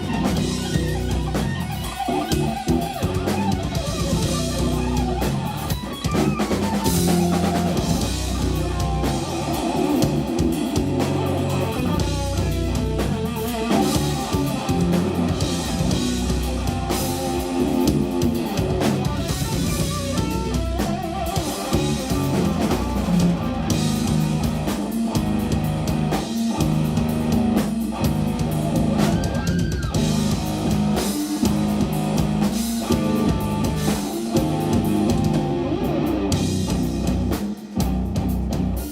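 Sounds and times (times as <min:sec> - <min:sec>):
bass guitar: 0:00.0 - 0:38.9
drum kit: 0:00.0 - 0:38.9
electric guitar lines: 0:00.0 - 0:38.9.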